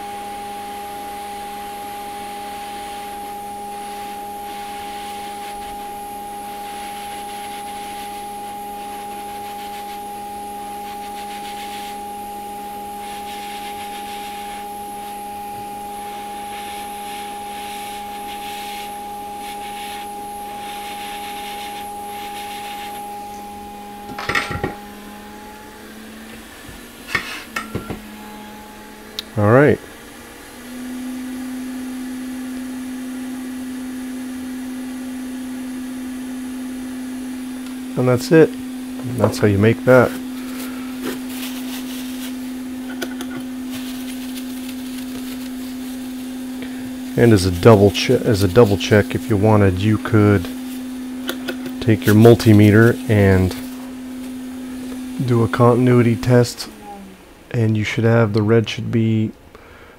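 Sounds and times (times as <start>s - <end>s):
hot air station blowing: 0.0s - 58.7s.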